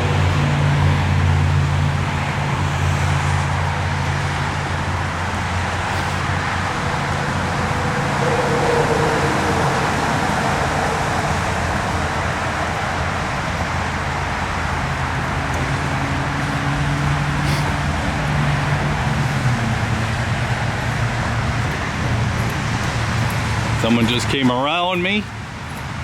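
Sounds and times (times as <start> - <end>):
low engine hum: 0.0 - 26.0
passing cars: 0.0 - 26.0.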